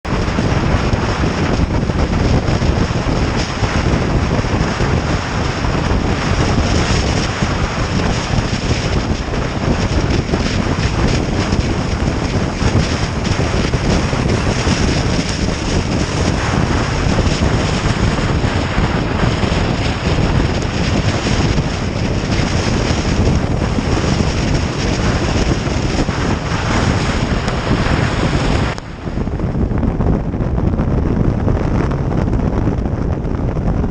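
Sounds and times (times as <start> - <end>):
motorcycle engine: 0.0 - 29.3
road noise: 0.0 - 33.9
wind buffeting microphone: 0.0 - 33.9.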